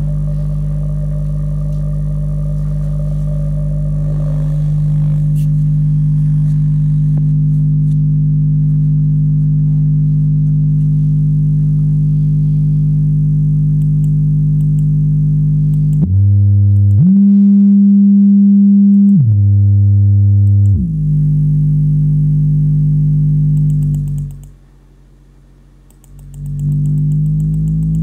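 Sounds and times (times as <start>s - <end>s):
buzzy low sine test tone: 0.0s - 28.0s.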